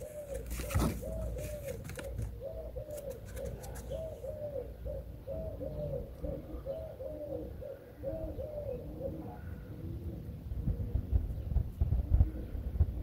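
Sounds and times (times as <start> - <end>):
doves cooing: 0.0 - 13.0
lower-pitched dove cooing: 0.0 - 13.0.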